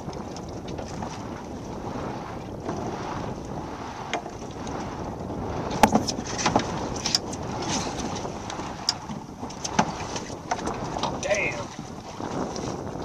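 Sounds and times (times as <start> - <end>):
knocks and clatters on boat: 0.0 - 13.0
wind noise: 0.0 - 13.0.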